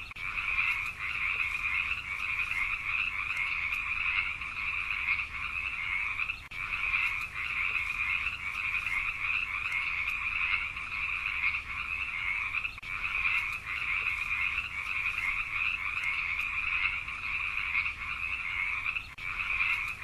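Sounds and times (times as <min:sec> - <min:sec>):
tree frogs trilling: 0:00.0 - 0:20.0.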